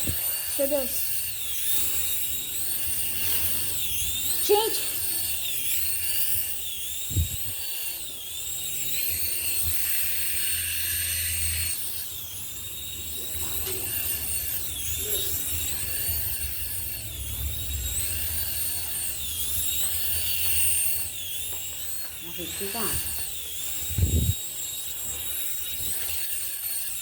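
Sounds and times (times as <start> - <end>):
toy helicopter motor whining: 0.0 - 27.0.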